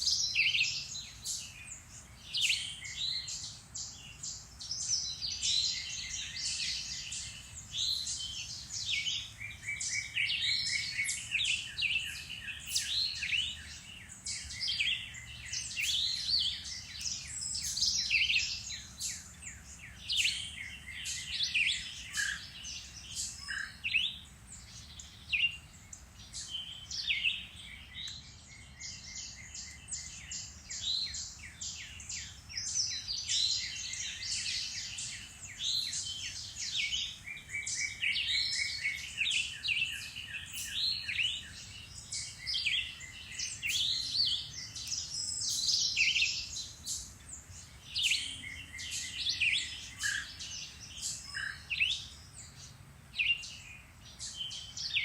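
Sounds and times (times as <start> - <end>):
woodland bird chorus: 0.0 - 55.0.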